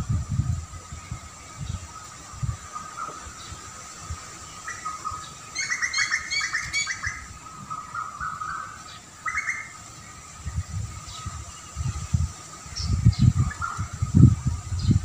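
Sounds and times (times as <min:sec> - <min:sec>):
small songbird chirping: 0:00.0 - 0:15.0.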